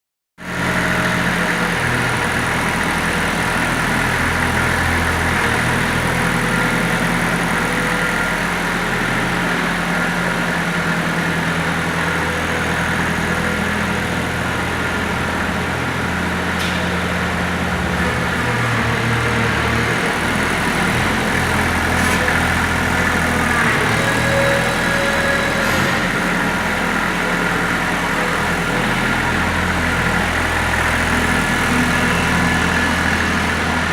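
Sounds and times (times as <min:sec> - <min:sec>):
tractor engine running: 0:00.4 - 0:33.9.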